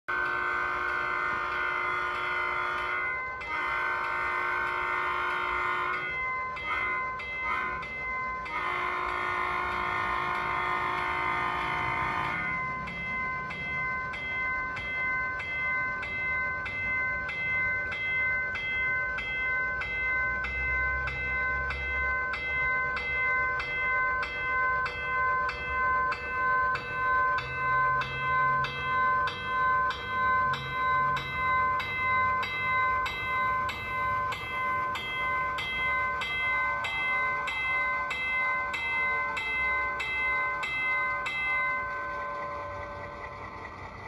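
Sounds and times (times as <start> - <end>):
locomotive bell ringing: 0.1 - 44.0
low diesel engine rumble: 0.1 - 44.0.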